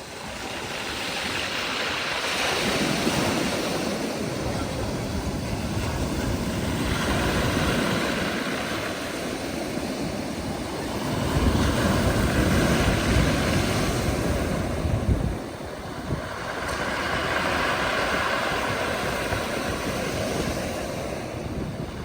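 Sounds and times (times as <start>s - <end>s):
waves breaking on shore: 0.0s - 22.0s.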